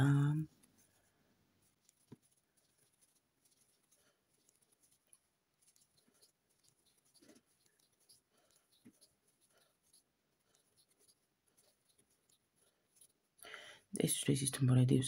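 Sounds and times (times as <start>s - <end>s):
crochet hook scratching yarn: 0.0s - 13.4s.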